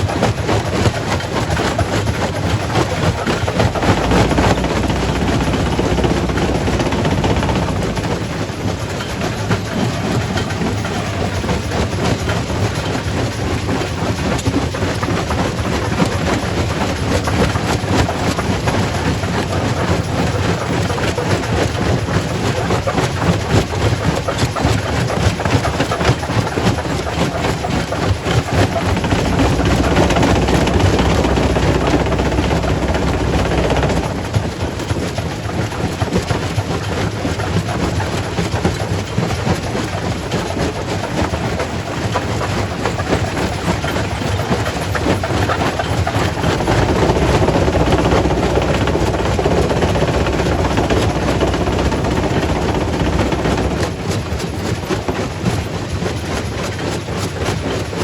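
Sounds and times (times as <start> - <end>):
rock crusher rumble: 0.0 - 58.0.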